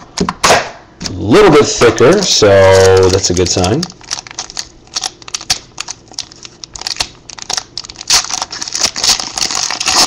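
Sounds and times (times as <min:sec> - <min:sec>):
foil wrapper crinkling: 0:01.1 - 0:10.0.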